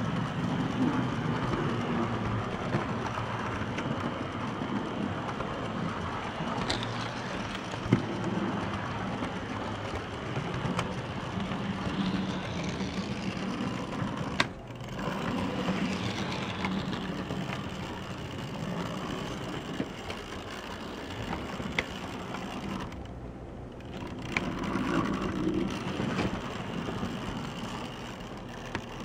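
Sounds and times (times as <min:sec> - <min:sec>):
model train motor whirring: 0:00.0 - 0:29.0.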